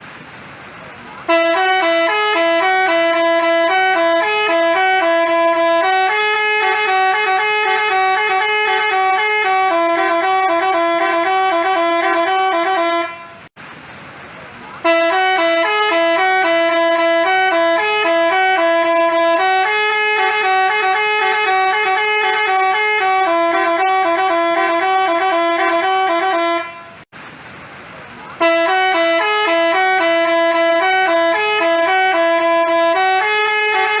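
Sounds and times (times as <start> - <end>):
multi-tone bus horn tune: 1.2 - 13.5, 14.8 - 27.1, 28.4 - 34.0.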